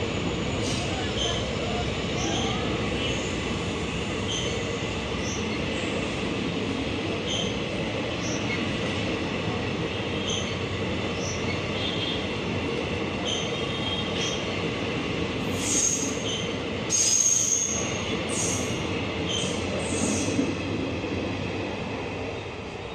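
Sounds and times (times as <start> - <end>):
train wheels squealing on rails: 0.0 - 6.2, 7.0 - 20.6
train coaches rumbling past: 0.0 - 22.9.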